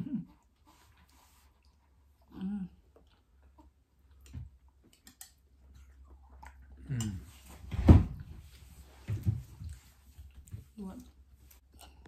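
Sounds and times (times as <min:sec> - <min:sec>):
quiet chewing: 0:00.0 - 0:07.5, 0:08.4 - 0:12.0.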